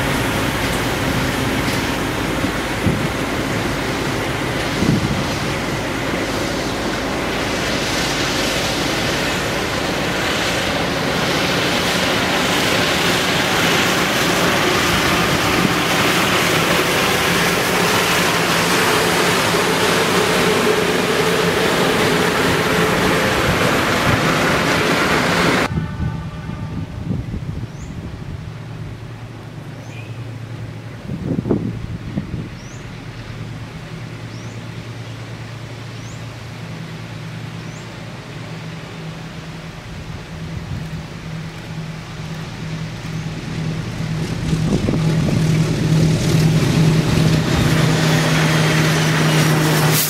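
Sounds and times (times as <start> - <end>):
diesel engine drone: 0.0 - 50.0
wheels rushing on rails: 0.0 - 50.0.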